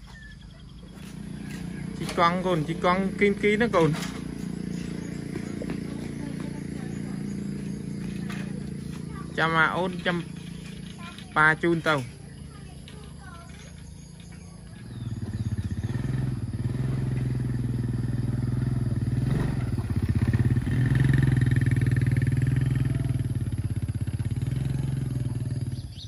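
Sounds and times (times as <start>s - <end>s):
small engine droning: 0.0s - 26.0s.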